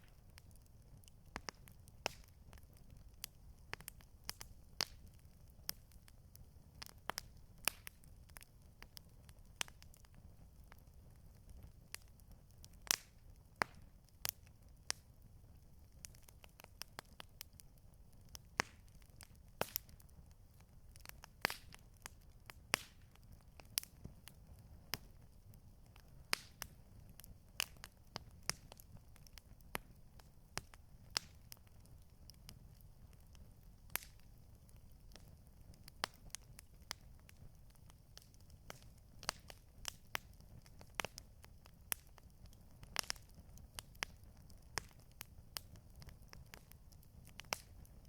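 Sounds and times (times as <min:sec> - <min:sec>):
campfire crackling: 0:00.0 - 0:48.0.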